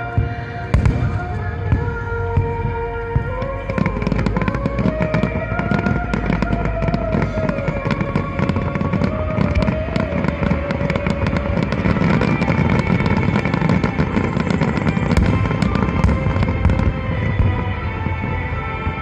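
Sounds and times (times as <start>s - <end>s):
fireworks bursting and crackling: 0.0s - 19.0s
music playing: 0.0s - 19.0s.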